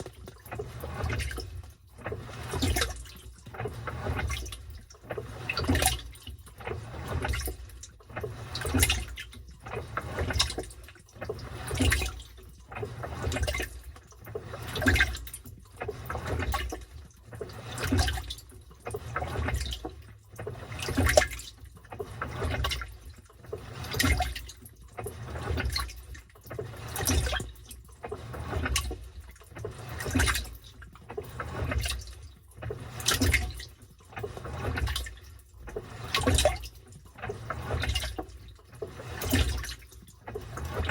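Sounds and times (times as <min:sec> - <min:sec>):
washing machine sloshing water: 0:00.0 - 0:40.9.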